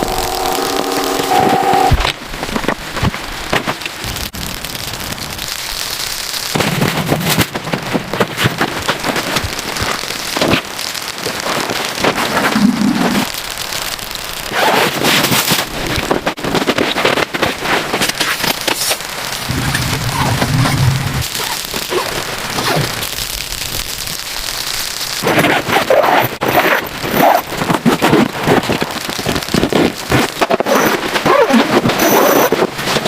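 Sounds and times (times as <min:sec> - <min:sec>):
dense crackling and pattering: 0:00.0 - 0:33.0.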